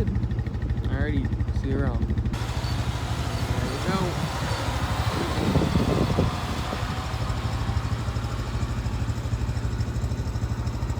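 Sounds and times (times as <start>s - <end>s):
tractor engine running: 0.0s - 10.9s.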